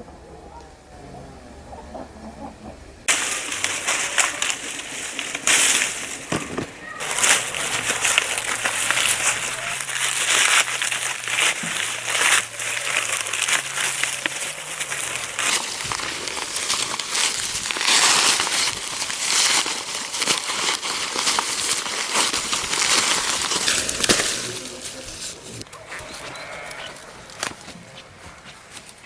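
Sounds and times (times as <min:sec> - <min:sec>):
dry corn stalks rustling: 0:03.1 - 0:29.0.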